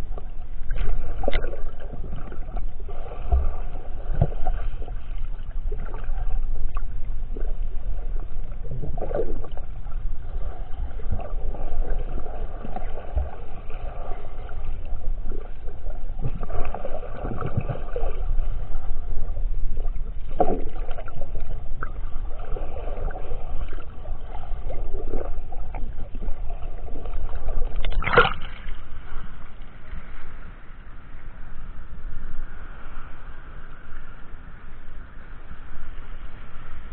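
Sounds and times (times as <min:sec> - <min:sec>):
muffled underwater rumble: 0:00.0 - 0:36.9
water swishes: 0:00.0 - 0:36.9.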